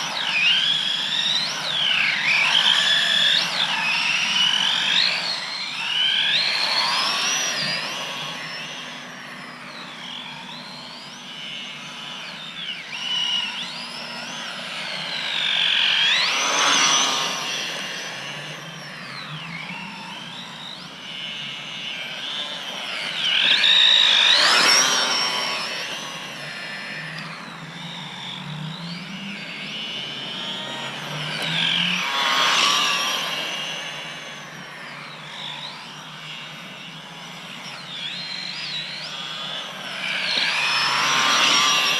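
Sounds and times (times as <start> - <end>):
electric toy truck motor whining: 0.0 - 41.9.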